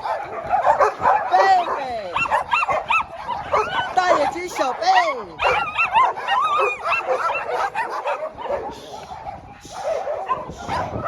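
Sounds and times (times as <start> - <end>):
dogs yipping and whining: 0.0 - 11.0.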